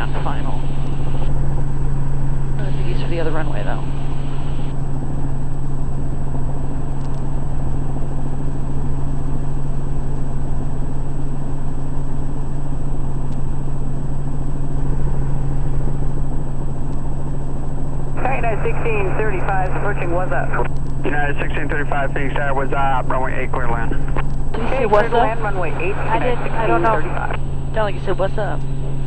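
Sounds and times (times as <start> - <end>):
helicopter rotor and engine drone: 0.0 - 29.0.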